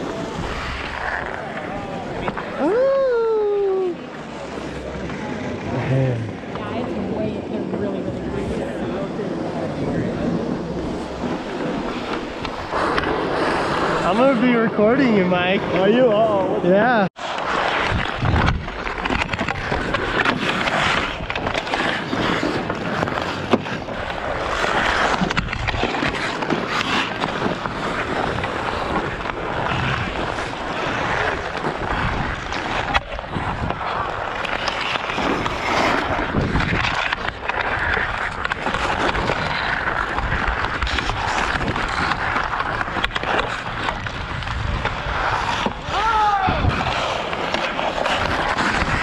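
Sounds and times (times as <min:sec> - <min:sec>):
ice skates scraping ice: 0:00.0 - 0:49.0.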